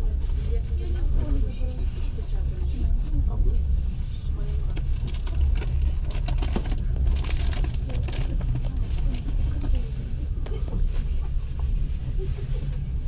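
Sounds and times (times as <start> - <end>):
train running gear rumble: 0.0 - 13.0.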